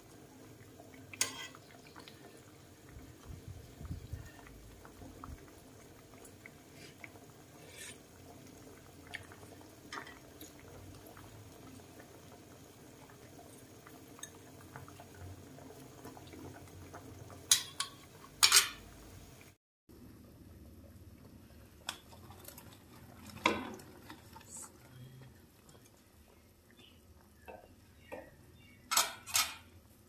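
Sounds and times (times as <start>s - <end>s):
broth bubbling in a pot: 0.0s - 28.7s.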